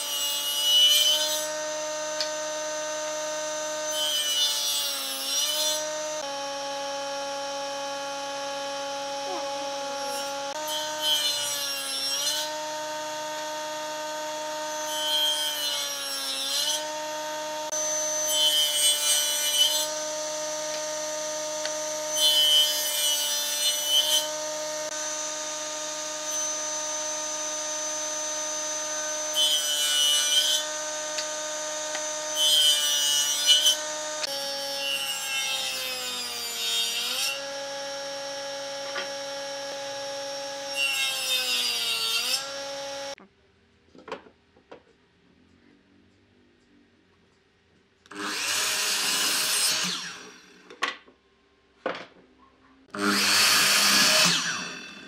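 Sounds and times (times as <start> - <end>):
saw blade cutting wood: 0.0 - 43.2, 48.1 - 50.8, 52.9 - 55.0
table saw whine: 0.0 - 43.2, 48.1 - 50.8, 52.9 - 55.0.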